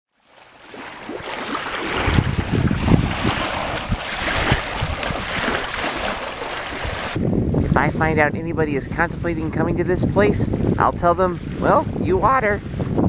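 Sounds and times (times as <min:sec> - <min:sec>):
small waves washing ashore: 0:00.1 - 0:13.0
wind buffeting microphone: 0:00.8 - 0:13.0.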